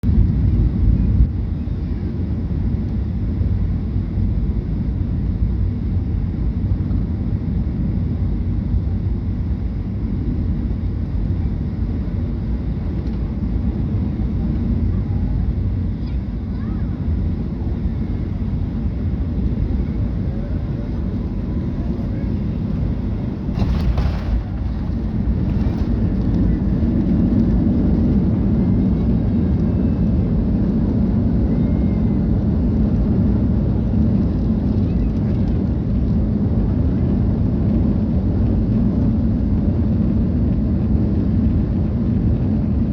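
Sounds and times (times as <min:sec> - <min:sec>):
jet airflow rumble: 0:00.0 - 0:42.9.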